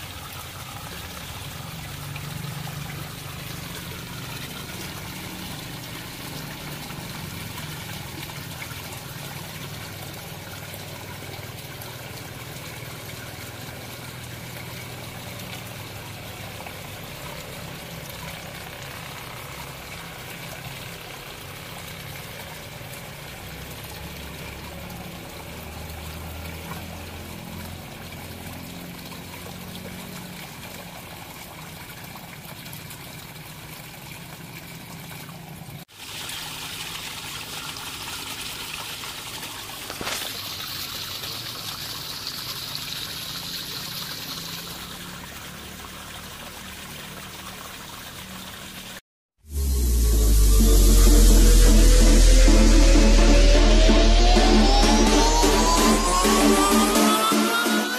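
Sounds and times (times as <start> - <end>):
water trickling: 0.0 - 49.0.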